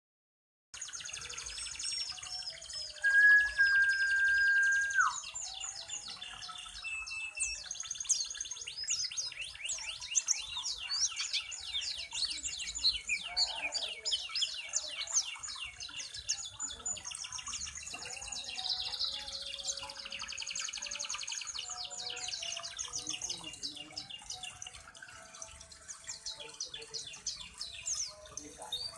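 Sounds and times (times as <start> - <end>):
bird twittering song: 0.8 - 28.9.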